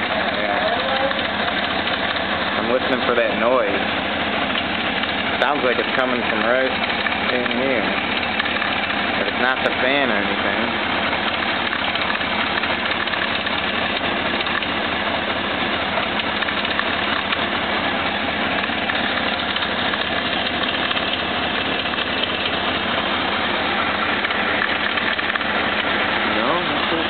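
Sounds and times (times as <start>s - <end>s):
engine knocking: 0.0s - 27.0s
motorcycle engine idling: 0.0s - 27.0s.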